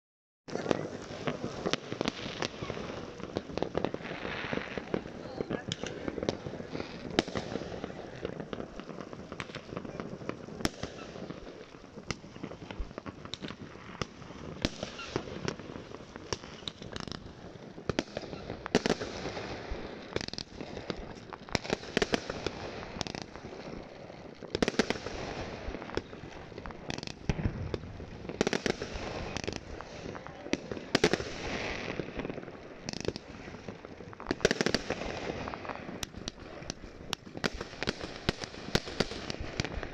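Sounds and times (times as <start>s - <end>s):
fireworks bangs: 0.5s - 39.9s.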